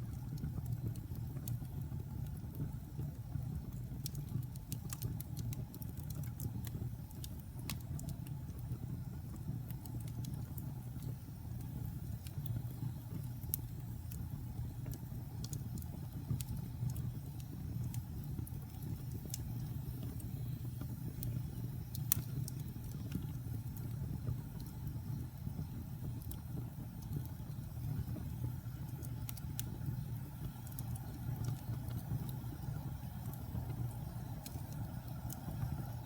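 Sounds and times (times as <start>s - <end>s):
fire crackling and popping: 0.0s - 36.0s
fire rumbling: 0.0s - 36.0s.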